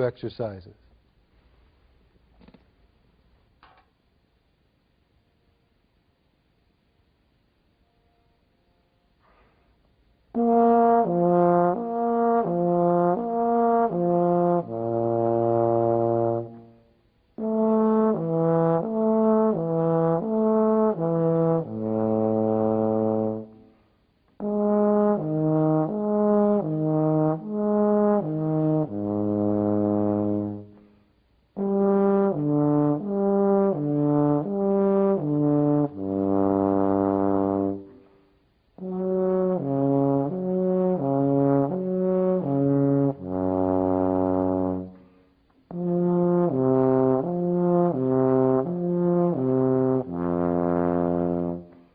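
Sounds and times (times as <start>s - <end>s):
low brass instrument playing: 10.3s - 51.9s.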